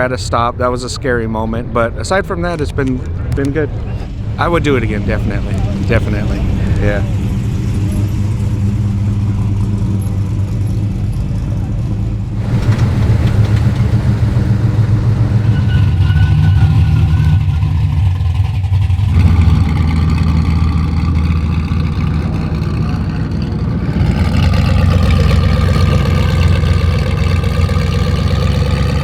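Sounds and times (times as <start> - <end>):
loud car engines running: 0.0 - 29.0.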